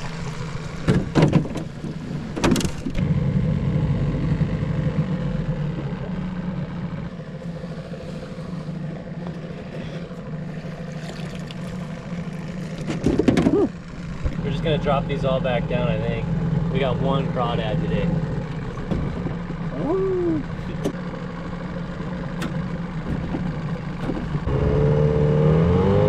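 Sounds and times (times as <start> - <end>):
boat motor idling: 0.0 - 24.6.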